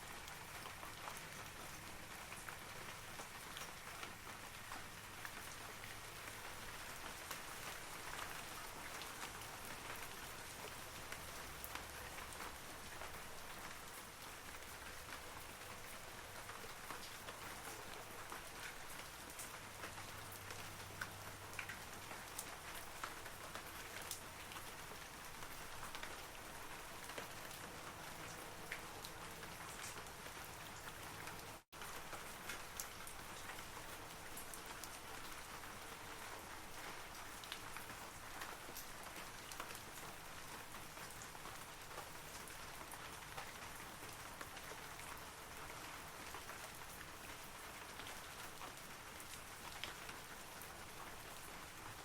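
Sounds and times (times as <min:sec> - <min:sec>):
rain falling on trees: 0:00.0 - 0:52.0.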